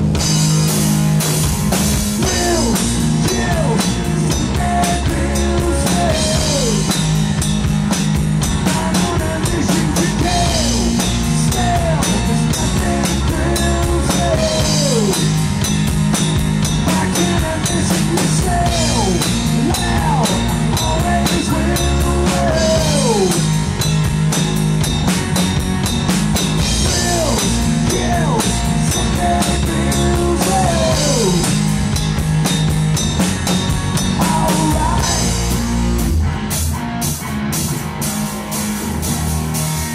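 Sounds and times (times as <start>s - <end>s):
drum beat: 0.0s - 36.1s
bass guitar: 0.0s - 39.9s
electric guitar lead line: 0.0s - 39.9s.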